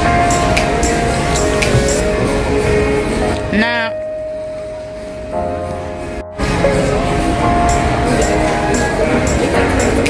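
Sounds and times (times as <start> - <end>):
music with sustained notes: 0.0 - 10.0.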